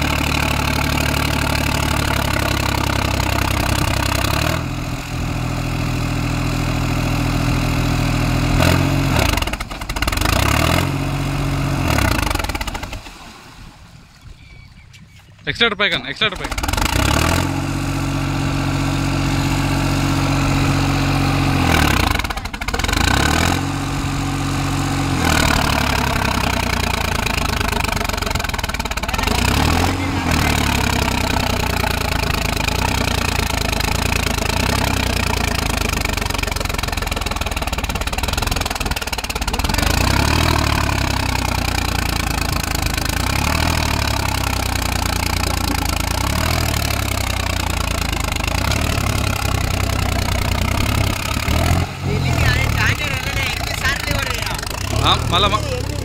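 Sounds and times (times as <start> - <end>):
tractor engines working hard: 0.0 - 56.0.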